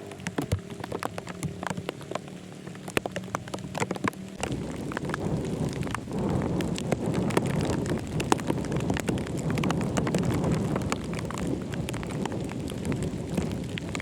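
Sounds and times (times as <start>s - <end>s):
raindrops pattering: 0.0s - 14.0s
wind rumble on microphone: 0.0s - 14.0s.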